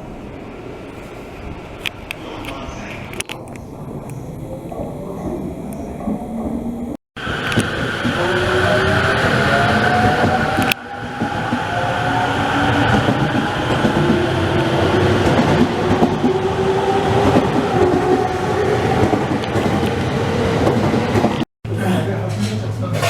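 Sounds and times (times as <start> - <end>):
train rumble and wheel clatter: 0.0 - 23.0.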